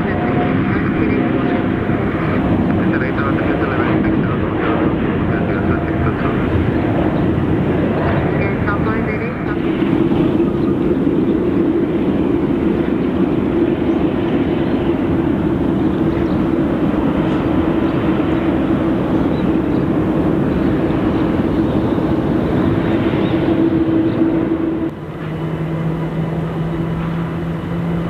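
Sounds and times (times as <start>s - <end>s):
jet airliner engine roar: 0.0s - 28.0s.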